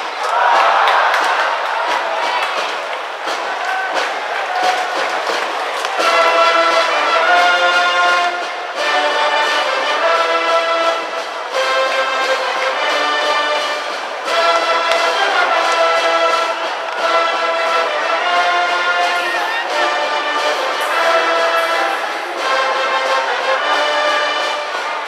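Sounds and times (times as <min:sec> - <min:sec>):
brass band playing cheering tune: 0:00.0 - 0:25.0.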